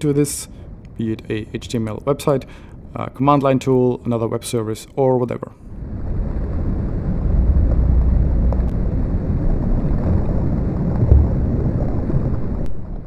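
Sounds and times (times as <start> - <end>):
dense low rumbling noise: 0.0 - 13.0.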